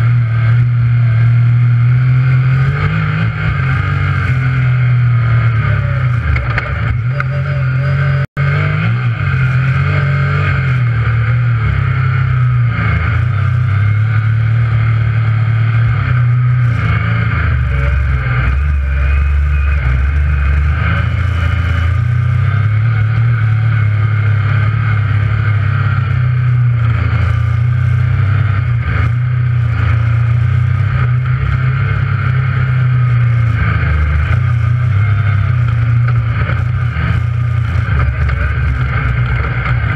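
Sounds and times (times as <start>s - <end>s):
engine running under way: 0.0s - 39.9s.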